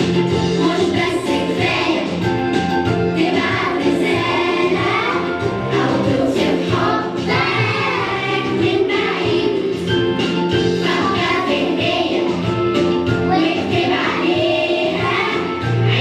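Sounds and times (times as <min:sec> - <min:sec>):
instrumental backing: 0:00.0 - 0:16.0
group of voices singing: 0:00.4 - 0:02.4, 0:03.1 - 0:10.0, 0:10.7 - 0:12.6, 0:13.2 - 0:16.0.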